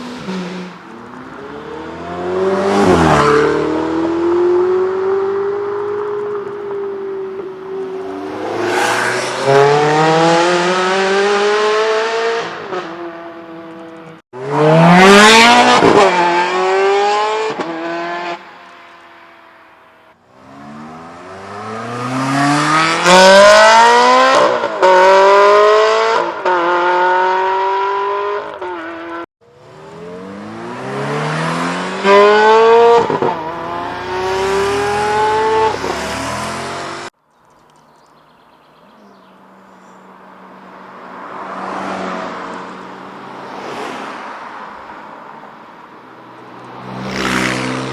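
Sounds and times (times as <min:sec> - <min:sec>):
sports car accelerating hard: 0:00.0 - 0:18.4, 0:20.3 - 0:37.1, 0:40.7 - 0:47.9.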